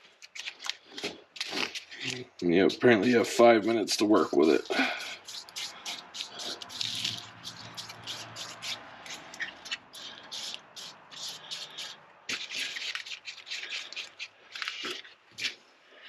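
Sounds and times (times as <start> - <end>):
stick scraping stirring compound: 0.0 - 15.6.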